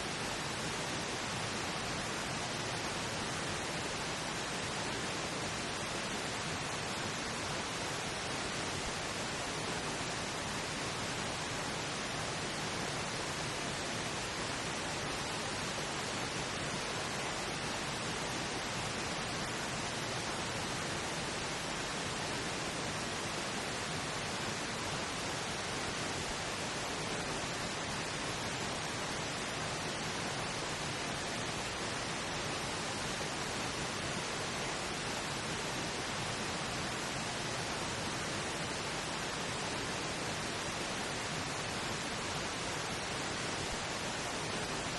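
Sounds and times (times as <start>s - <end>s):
steady pink noise hiss: 0.0s - 44.9s.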